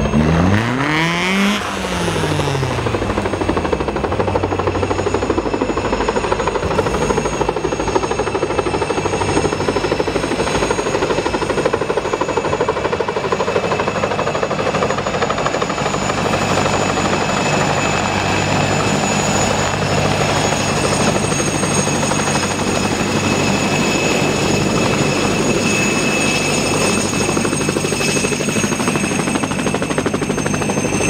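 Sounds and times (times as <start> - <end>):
helicopter high whine: 0.0 - 31.0
helicopter rotor beating: 0.0 - 31.0.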